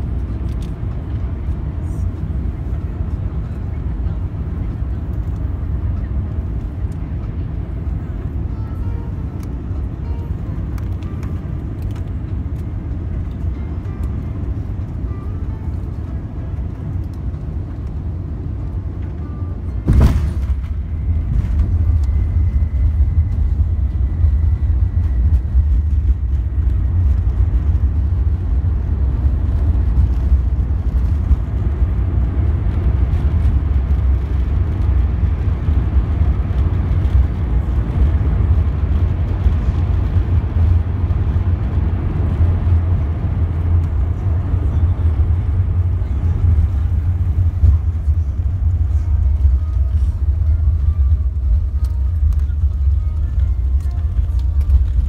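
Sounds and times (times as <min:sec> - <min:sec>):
aircraft landing rumble: 0:00.0 - 0:55.0.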